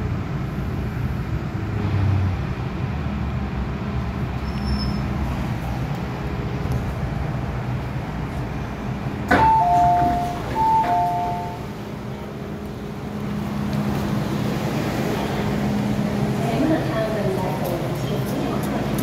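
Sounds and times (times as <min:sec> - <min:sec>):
train running: 0:00.0 - 0:19.0.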